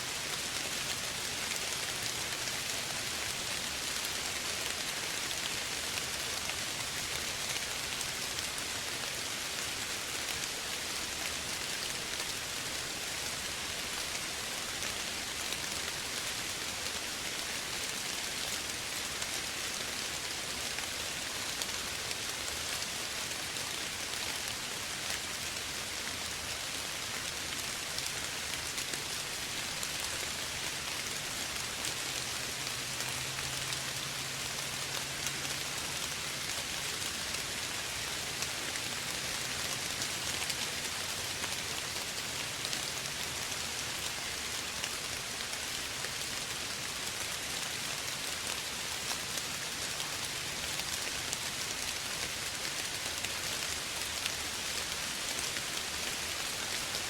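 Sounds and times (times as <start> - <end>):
soft rain pattering: 0.0 - 57.0.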